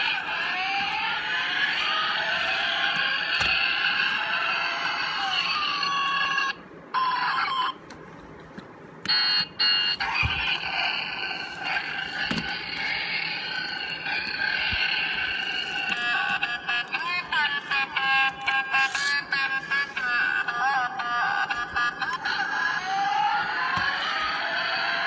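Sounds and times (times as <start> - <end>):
toy motorcycle sound effect: 0.0 - 7.7, 9.2 - 25.0.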